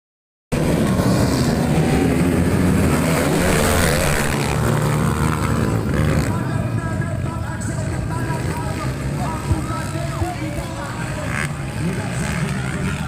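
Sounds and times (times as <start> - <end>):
motorcycle engines revving: 0.5 - 13.0.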